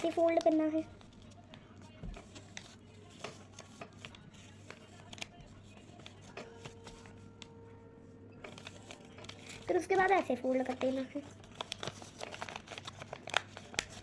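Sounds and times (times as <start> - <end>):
paper rustling and folding: 0.0 - 7.5, 8.4 - 14.0
low steady hum: 0.0 - 13.4.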